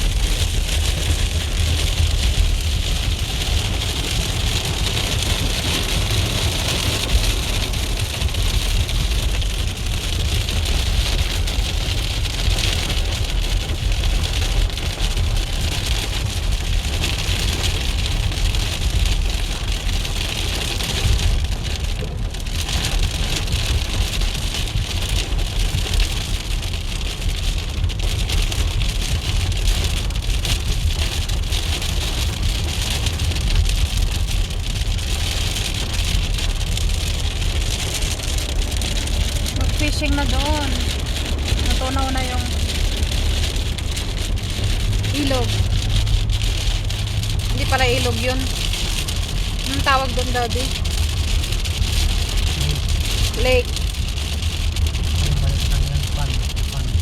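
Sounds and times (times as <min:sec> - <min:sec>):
rain on a car: 0:00.0 - 0:57.0
road and engine rumble: 0:00.0 - 0:57.0.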